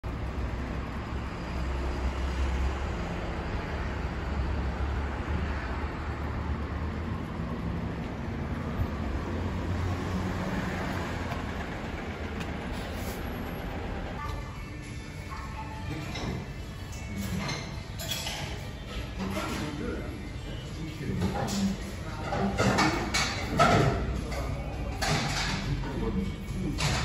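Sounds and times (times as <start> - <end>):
passing vehicles rumbling: 0.0 - 27.0.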